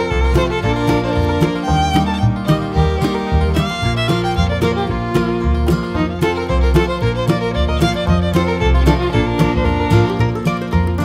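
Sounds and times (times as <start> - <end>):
string-band tune with fiddle: 0.0 - 11.0.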